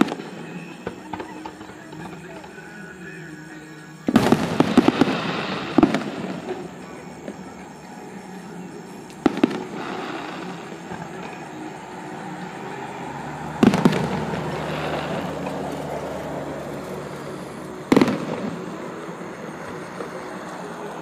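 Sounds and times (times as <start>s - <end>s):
fireworks bursting with sharp bangs: 0.0s - 21.0s
low background noise: 0.0s - 21.0s.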